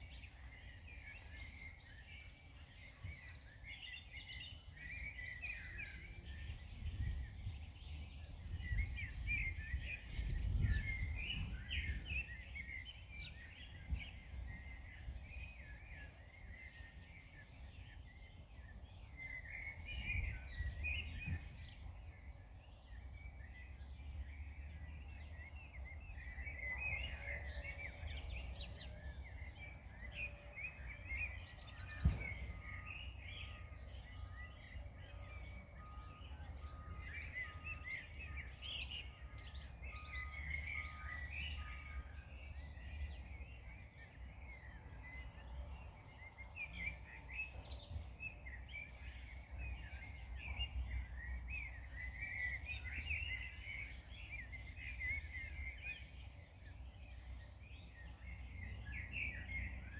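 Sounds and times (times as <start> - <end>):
small birds singing and chirping: 0.0 - 59.9.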